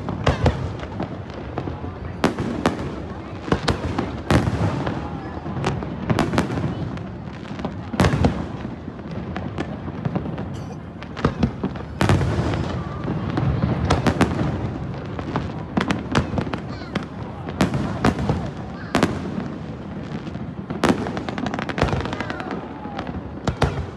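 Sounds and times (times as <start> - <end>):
fireworks bangs and crackles: 0.0 - 23.9.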